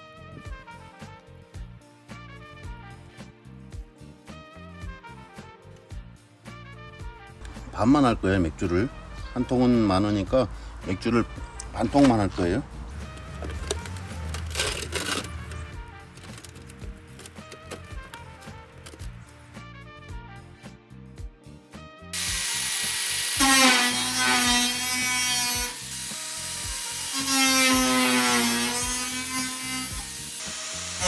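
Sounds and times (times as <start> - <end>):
background music with bass line: 0.0 - 31.0.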